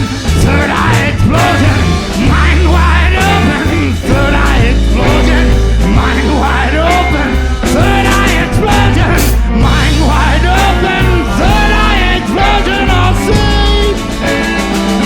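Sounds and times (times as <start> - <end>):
blues-rock band playing: 0.0 - 15.0.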